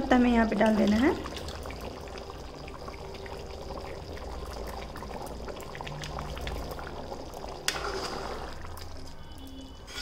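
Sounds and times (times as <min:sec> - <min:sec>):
thick gravy bubbling in a pan: 0:00.0 - 0:10.0.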